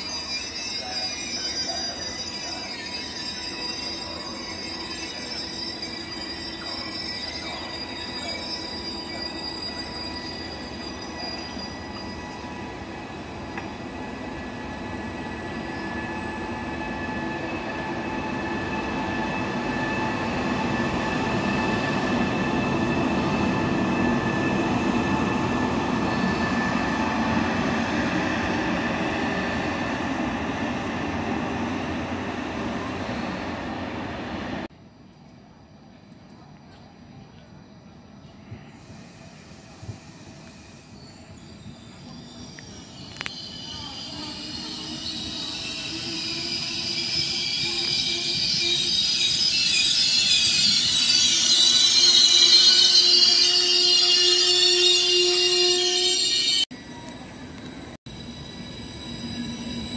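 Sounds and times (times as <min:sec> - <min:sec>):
train wheels squealing: 0:00.0 - 0:34.7, 0:37.6 - 0:59.9.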